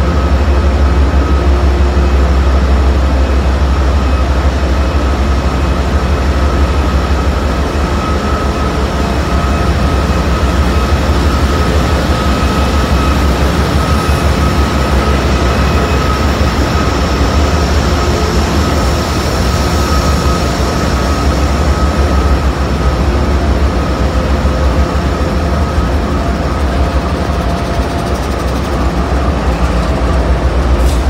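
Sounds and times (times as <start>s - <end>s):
diesel locomotive engine idling: 0.0s - 31.0s.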